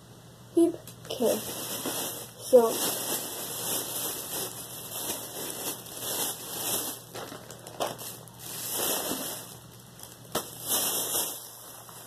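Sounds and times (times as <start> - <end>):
plastic bag crinkling: 1.1 - 12.0.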